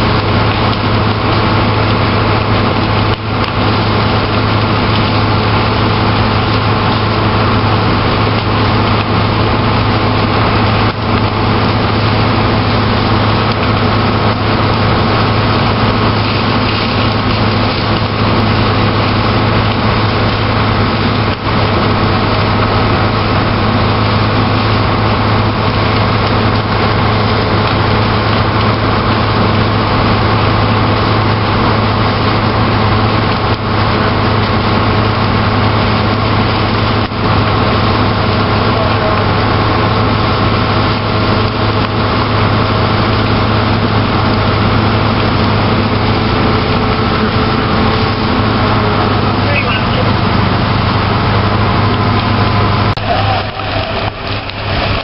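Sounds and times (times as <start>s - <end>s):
fire engine pump droning: 0.0s - 55.0s
house fire burning: 0.0s - 55.0s.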